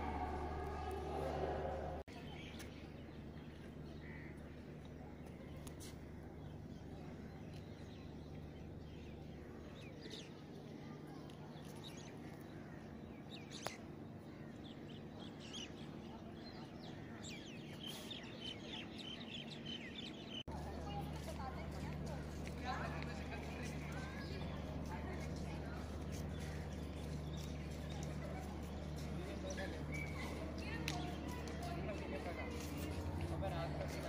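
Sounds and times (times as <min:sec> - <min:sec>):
birds chirping: 0:00.0 - 0:34.0
faint low hum: 0:00.0 - 0:34.0.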